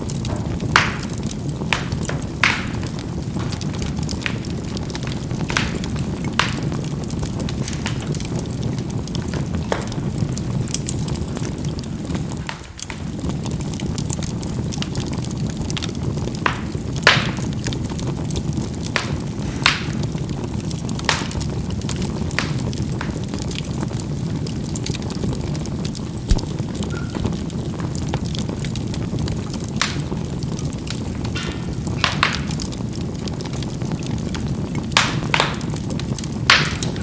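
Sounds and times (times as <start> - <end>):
charcoal popping and crackling: 0.0 - 37.0
fire rumbling: 0.0 - 37.0.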